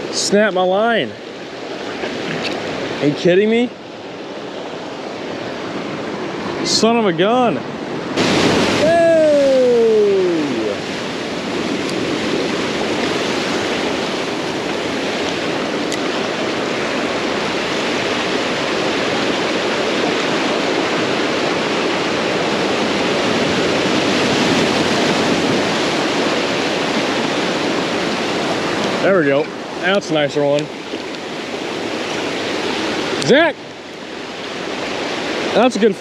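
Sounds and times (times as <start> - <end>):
ocean surf washing ashore: 0.0 - 36.0.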